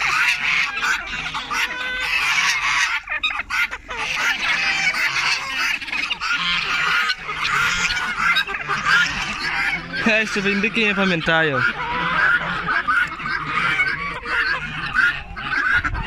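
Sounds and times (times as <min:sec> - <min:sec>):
ducks geese chickens and turkeys calling: 0:00.0 - 0:16.0.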